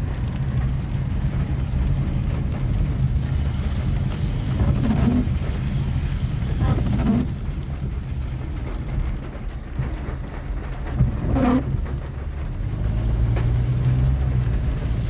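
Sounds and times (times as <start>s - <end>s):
car engine and road rumble: 0.0s - 15.0s
rain on car body: 0.0s - 15.0s.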